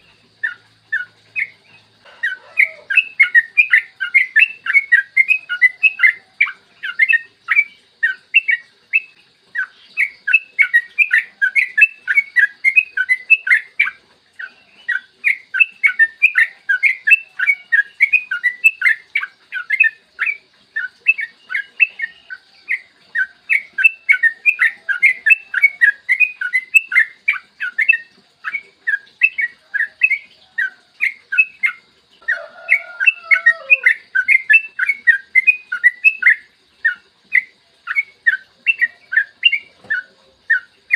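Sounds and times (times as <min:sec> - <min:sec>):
bird singing rapid notes: 0:00.0 - 0:40.9.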